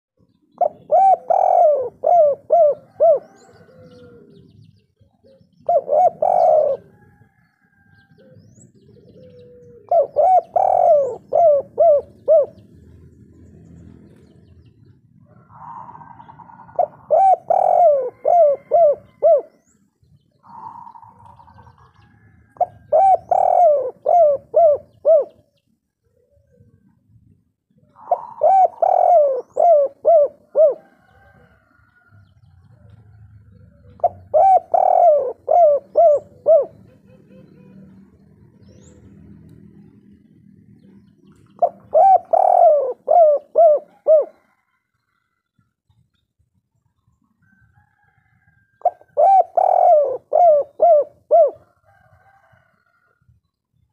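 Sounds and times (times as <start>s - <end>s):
dove cooing: 0.2s - 27.0s, 27.7s - 45.4s, 47.4s - 53.1s.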